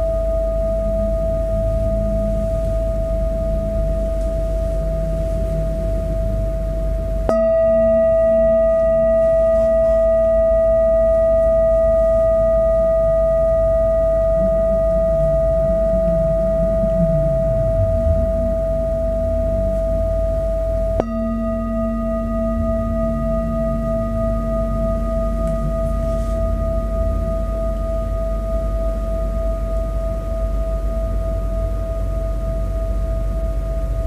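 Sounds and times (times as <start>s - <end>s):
metal singing bowl ringing: 0.0s - 34.0s
mallet striking bowl: 0.2s - 31.4s.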